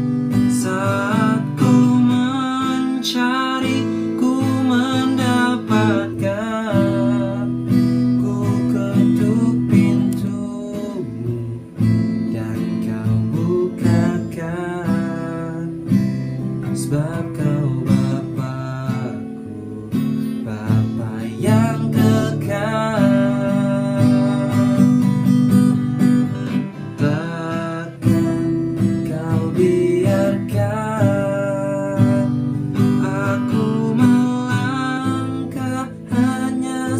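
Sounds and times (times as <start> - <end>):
acoustic guitar strumming: 0.0 - 36.9
person singing: 0.0 - 36.9.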